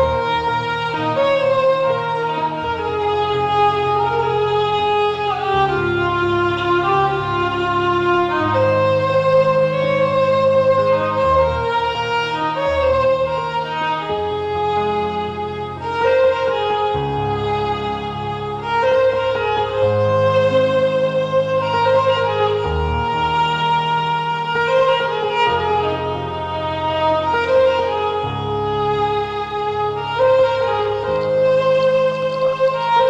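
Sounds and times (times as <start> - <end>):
slow violin melody: 0.0 - 33.0
sustained low notes: 0.0 - 33.0.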